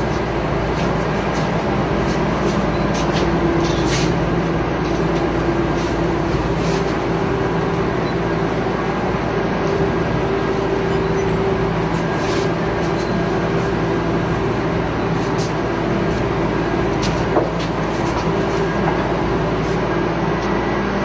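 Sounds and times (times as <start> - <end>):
machine-like hum: 0.0 - 21.0.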